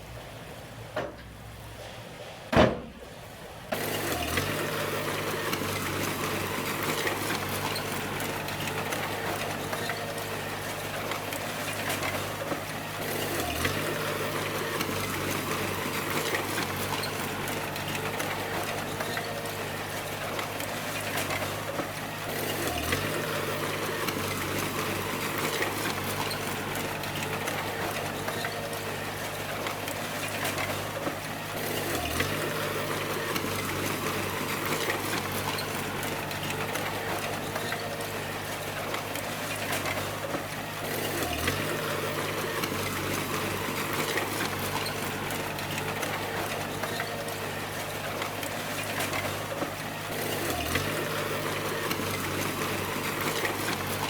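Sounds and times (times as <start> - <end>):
bulldozer engine running: 2.9 - 54.0.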